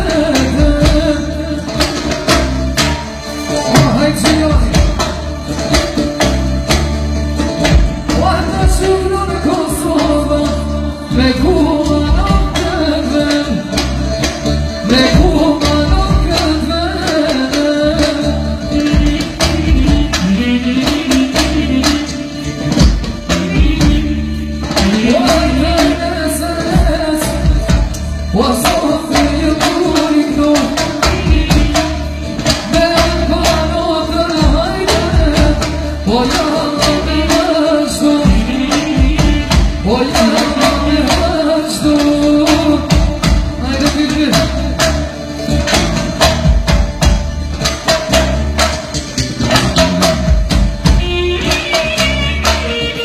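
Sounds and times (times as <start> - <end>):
person singing: 0.0 - 6.8, 7.7 - 45.3
bending melody line: 0.0 - 53.0
drum kit beat: 0.0 - 53.0
strong bass: 0.0 - 53.0.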